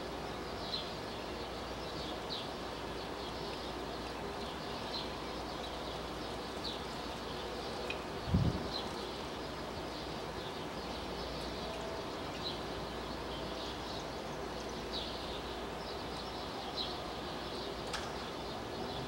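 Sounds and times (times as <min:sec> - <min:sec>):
outdoor ambient noise: 0:00.0 - 0:19.0.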